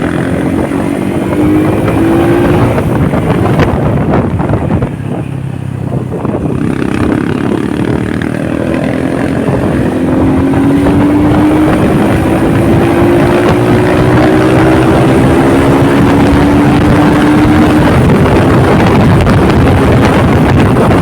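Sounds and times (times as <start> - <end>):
motorcycle engine accelerating: 0.0 - 21.0
road noise: 0.0 - 21.0
wind noise: 0.0 - 21.0.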